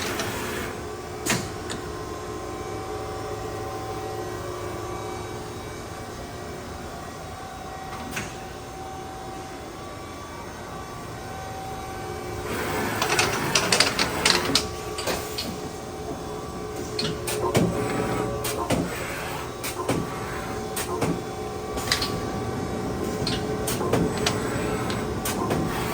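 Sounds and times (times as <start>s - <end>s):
machine hum with held tones: 0.0s - 25.9s.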